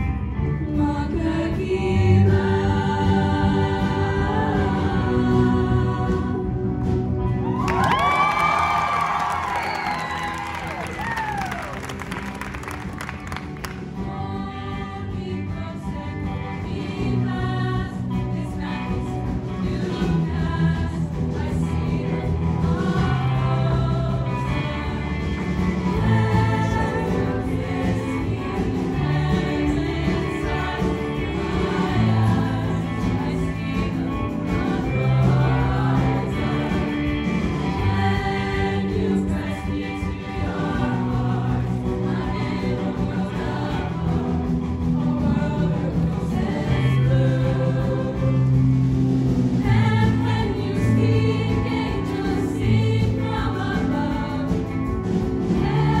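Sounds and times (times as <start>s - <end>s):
low bass notes: 0.0s - 56.0s
female choir singing: 0.6s - 6.8s, 8.0s - 48.6s, 49.6s - 56.0s.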